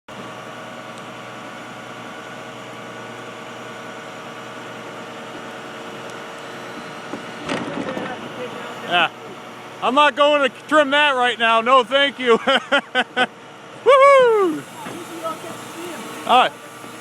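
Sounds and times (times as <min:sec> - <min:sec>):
engine idling: 0:00.1 - 0:17.0.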